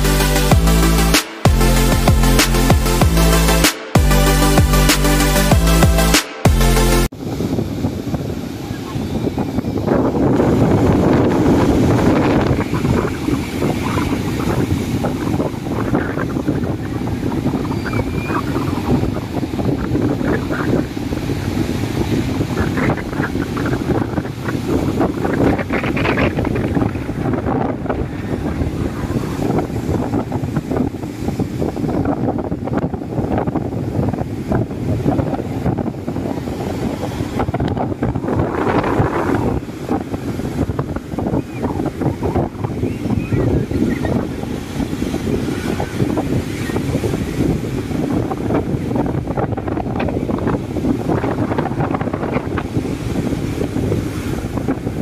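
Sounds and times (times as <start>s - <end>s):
surf breaking on shore: 7.1s - 55.0s
wind buffeting microphone: 7.1s - 55.0s.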